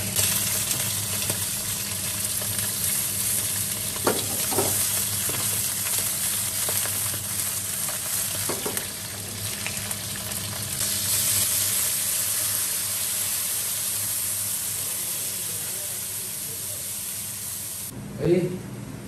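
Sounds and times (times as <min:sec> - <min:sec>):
chicken wings sizzling in oil: 0:00.0 - 0:17.9.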